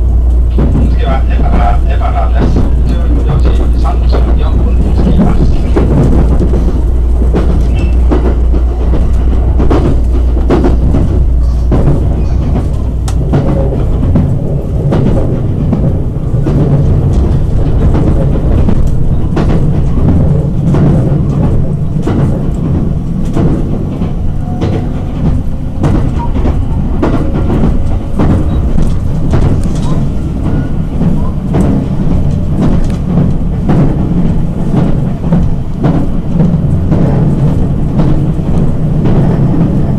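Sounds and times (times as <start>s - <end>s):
track clicks and knocks: 0.0s - 39.9s
train wheels rumbling on rail: 0.0s - 39.9s.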